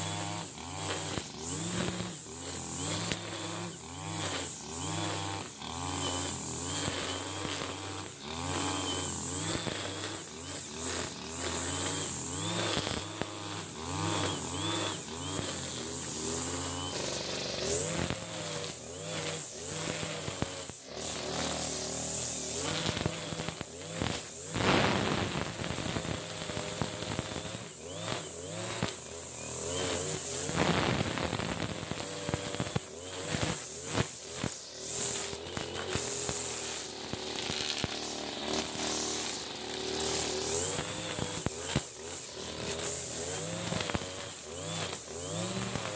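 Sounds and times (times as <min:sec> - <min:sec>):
brush cutter cutting grass: 0:00.0 - 0:45.9
brush cutter engine revving: 0:00.0 - 0:45.9.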